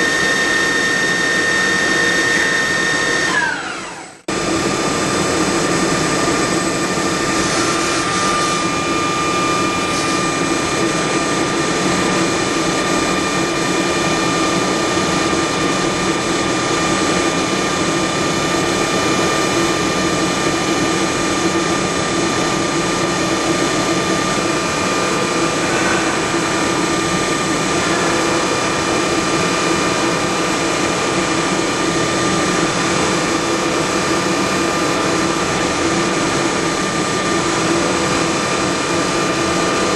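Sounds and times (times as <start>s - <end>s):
lathe mechanical whine: 0.0s - 39.9s
metal cutting noise: 0.0s - 39.9s.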